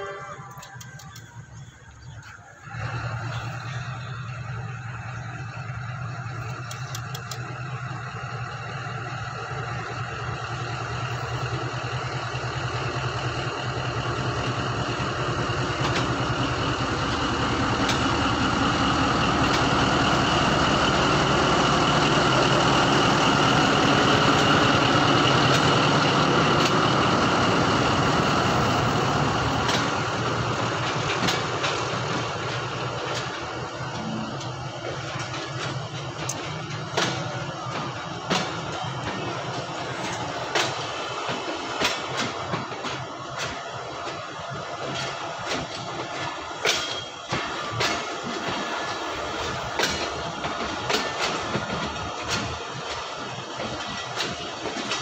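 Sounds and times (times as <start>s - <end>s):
diesel locomotive engine idling: 0.0s - 55.0s.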